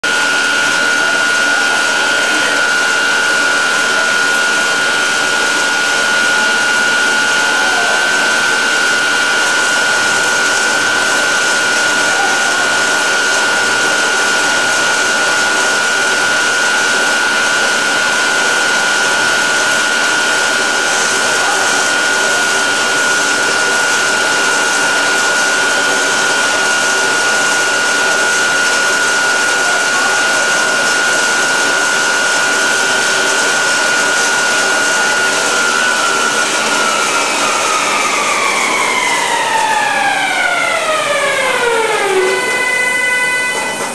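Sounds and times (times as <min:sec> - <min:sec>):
circular saw blade whirring whine: 0:00.0 - 0:43.9.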